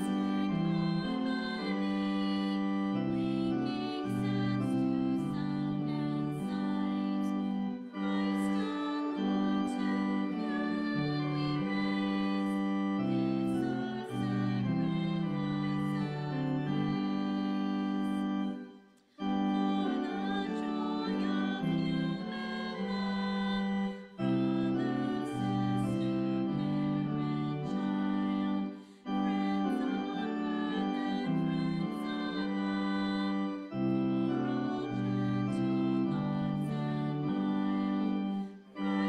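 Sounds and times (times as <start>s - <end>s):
church organ playing a hymn: 0.0s - 39.0s.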